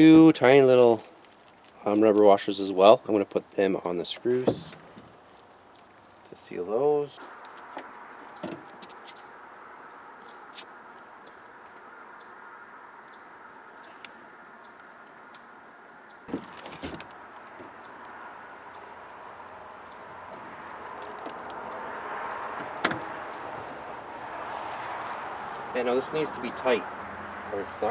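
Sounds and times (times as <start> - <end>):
insect trill: 0.0 - 27.9.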